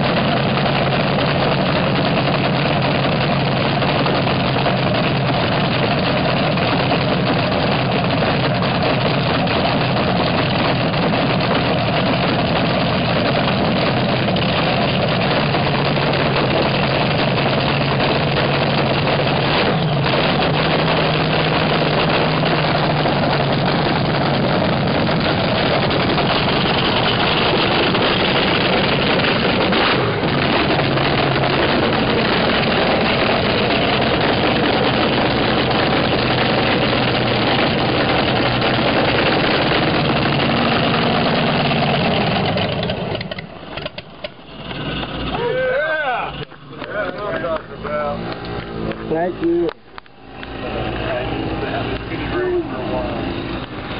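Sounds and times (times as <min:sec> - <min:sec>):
dragster engine idling: 0:00.0 - 0:53.9.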